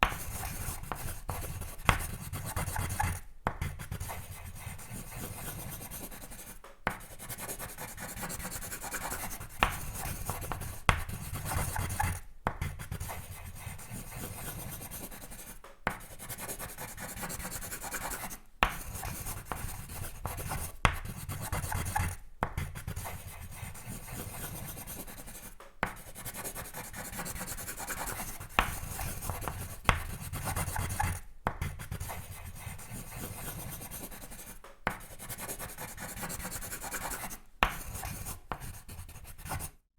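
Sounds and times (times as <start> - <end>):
pencil sketching on paper: 0.0 - 39.8.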